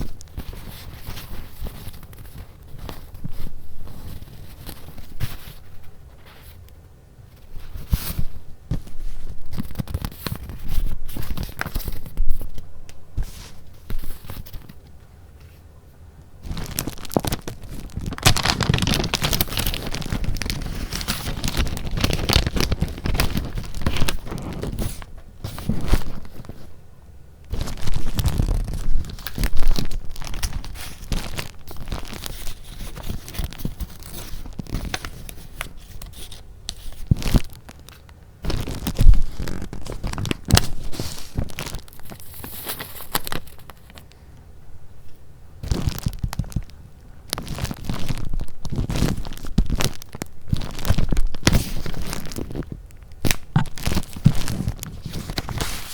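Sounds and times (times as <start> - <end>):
paper rustling and crinkling: 0.0 - 6.7, 7.3 - 15.7, 16.4 - 26.8, 27.5 - 44.3, 45.6 - 55.9.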